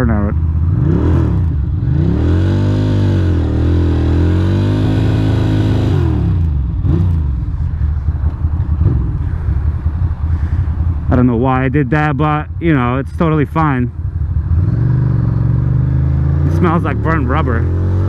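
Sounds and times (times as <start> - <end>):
motorcycle engine revving: 0.0 - 11.6, 12.6 - 18.0.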